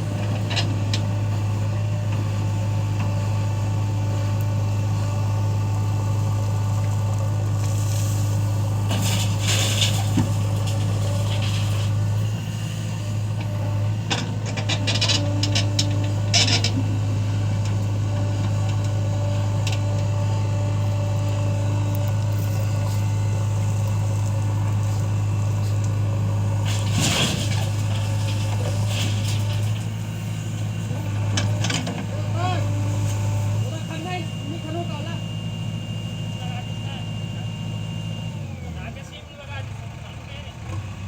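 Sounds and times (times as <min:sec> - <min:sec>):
loader bucket scraping and clunking: 0:00.0 - 0:38.8
heavy diesel machinery droning: 0:00.0 - 0:41.0.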